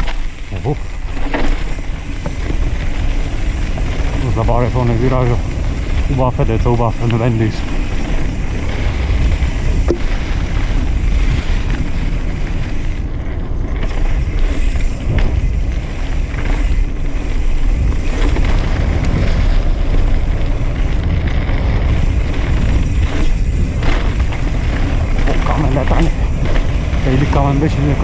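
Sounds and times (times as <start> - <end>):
bike clicks and rattles: 0.0 - 28.0
tyres crunching on gravel: 0.0 - 28.0
wind buffeting microphone: 0.0 - 28.0.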